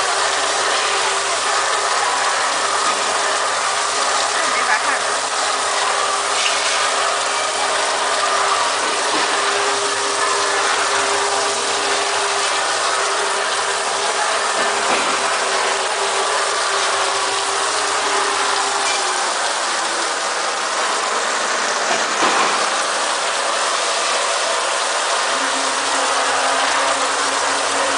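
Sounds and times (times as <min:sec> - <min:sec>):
bottle washing machine clattering: 0:00.0 - 0:27.9.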